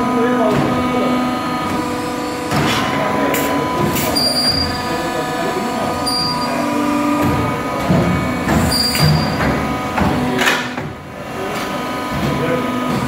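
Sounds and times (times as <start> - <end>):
machine drives whining: 0.0 - 13.0.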